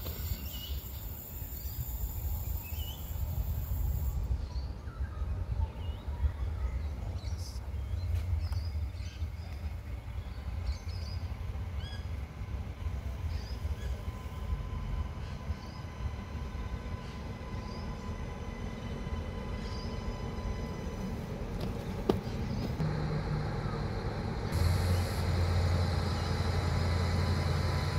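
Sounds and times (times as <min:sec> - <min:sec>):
diesel railcar rumble: 0:00.0 - 0:27.9.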